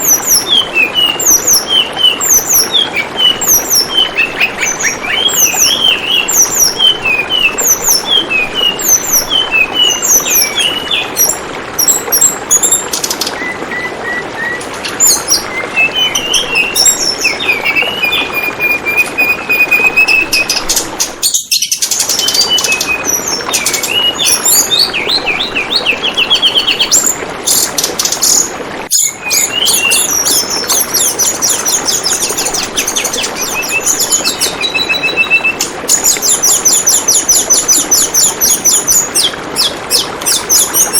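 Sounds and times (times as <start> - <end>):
birds chirping and trilling: 0.0 - 40.9
water trickling: 0.0 - 40.9.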